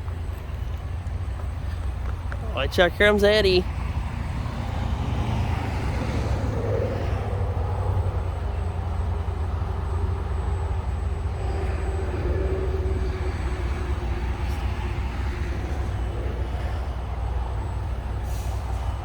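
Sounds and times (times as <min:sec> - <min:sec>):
faint hum: 0:00.0 - 0:19.0
locomotive engines rumbling: 0:00.0 - 0:19.0.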